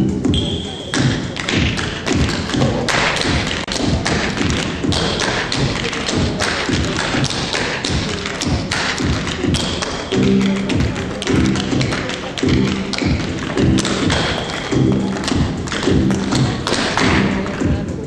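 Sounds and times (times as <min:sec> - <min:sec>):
tap shoes striking stage floor: 0:00.9 - 0:18.0.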